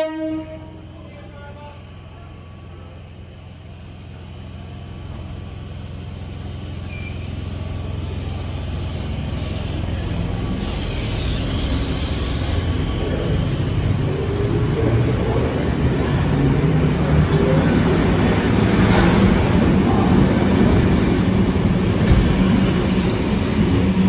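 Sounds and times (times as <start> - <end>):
electric train rumbling: 0.0 - 24.0
train hiss: 0.2 - 24.0.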